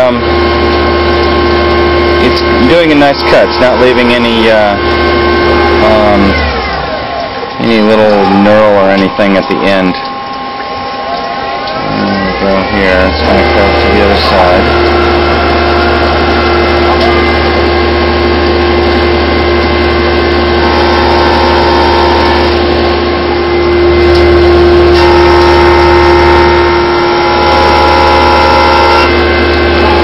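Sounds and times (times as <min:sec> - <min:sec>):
coolant splashing hiss: 0:00.0 - 0:25.0
milling machine whine: 0:00.0 - 0:30.0.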